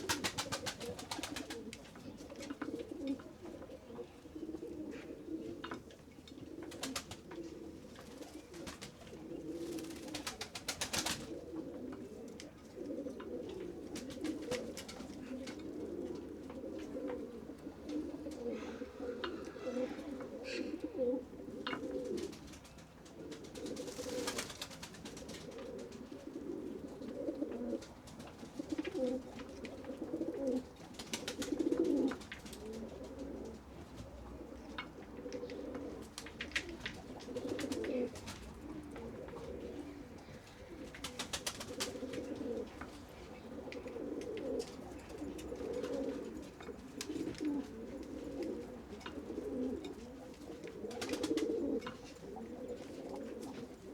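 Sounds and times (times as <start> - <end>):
pigeons cooing: 0.0 - 53.9.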